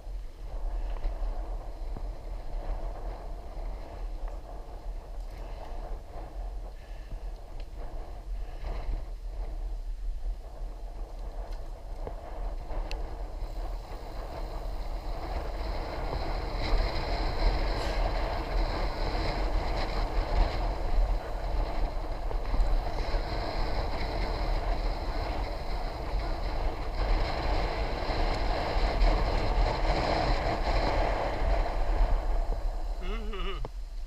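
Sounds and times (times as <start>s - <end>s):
wind buffeting microphone: 0.0s - 33.0s
bicycle tyre and road noise: 0.0s - 34.0s.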